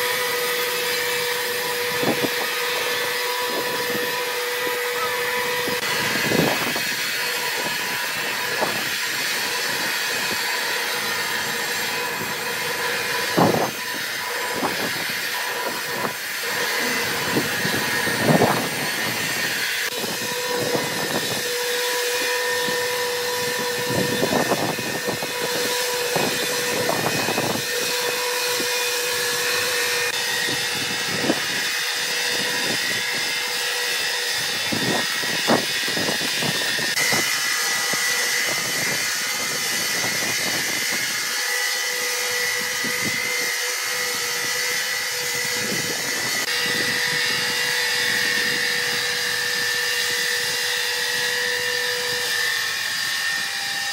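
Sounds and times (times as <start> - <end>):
band sawmill whine and hum: 0.0 - 53.9.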